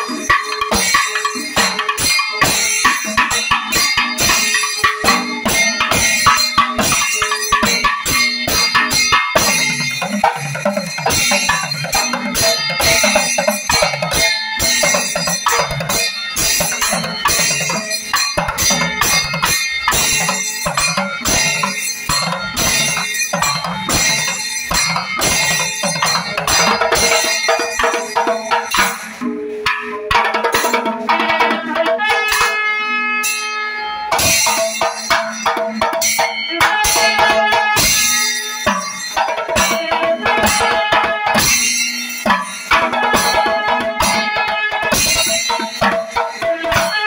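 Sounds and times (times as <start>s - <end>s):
drums in fast rhythm: 0.0s - 32.9s, 34.1s - 47.0s
cymbals ringing: 0.0s - 47.0s.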